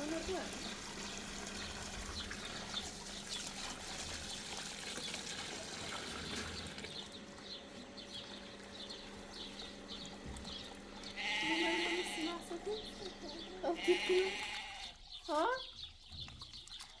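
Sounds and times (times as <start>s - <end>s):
water running and trickling: 0.0s - 17.0s.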